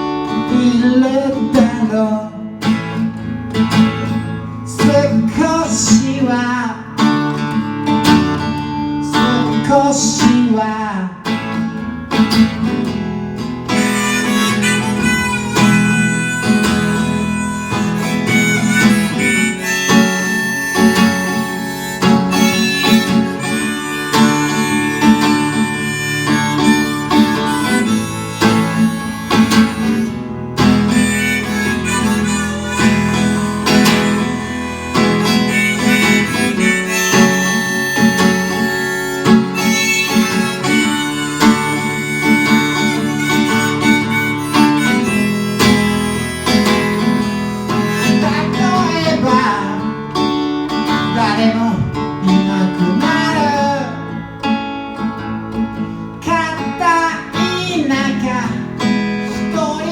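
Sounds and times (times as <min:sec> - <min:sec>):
harmonica melody: 0:00.0 - 0:10.5, 0:11.3 - 0:59.9
strummed acoustic guitar: 0:00.0 - 0:59.9.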